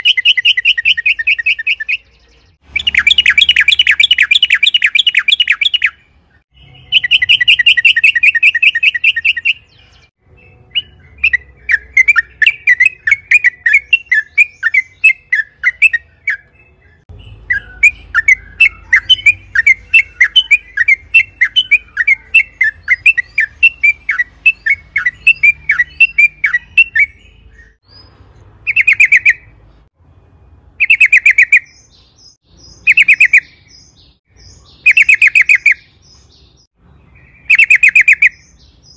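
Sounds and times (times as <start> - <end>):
bulbul singing: 0.0 - 29.9, 30.8 - 38.9.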